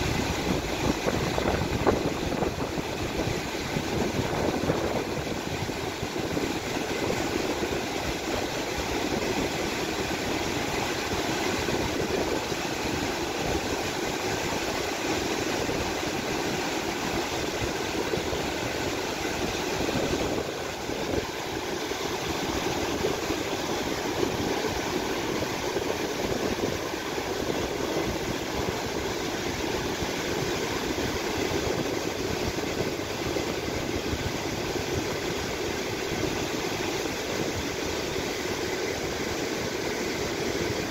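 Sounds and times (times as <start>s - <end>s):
river rushing over stones: 0.0s - 40.9s.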